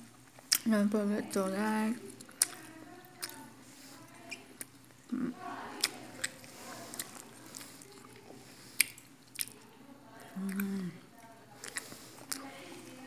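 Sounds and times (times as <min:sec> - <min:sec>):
person chewing: 0:00.0 - 0:00.7, 0:02.1 - 0:12.6
faint murmur of voices: 0:00.0 - 0:13.0.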